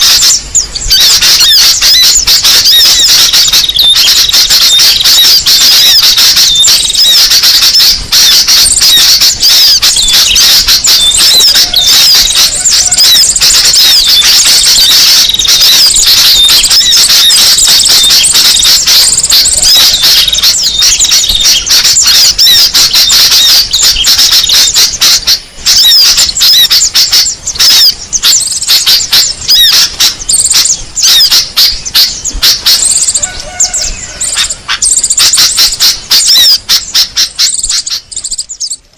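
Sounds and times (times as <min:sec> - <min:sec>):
songbirds chattering: 0:00.0 - 0:38.9.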